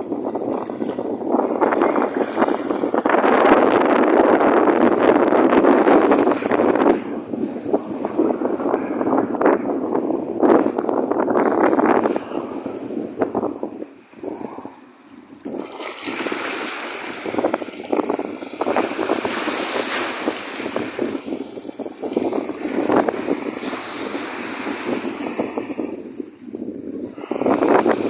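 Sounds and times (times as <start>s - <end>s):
sea water washing: 0.0s - 28.0s
wind rushing over microphone: 0.0s - 28.0s.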